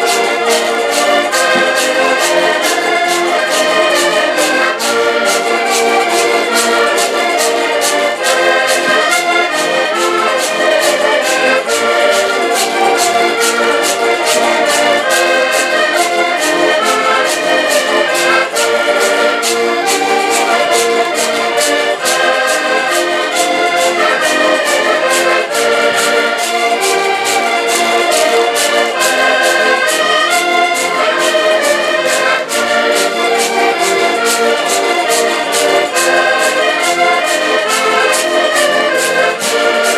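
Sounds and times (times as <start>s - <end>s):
accordion ensemble playing folk tune: 0.0s - 39.9s
small string instrument strumming: 0.0s - 39.9s.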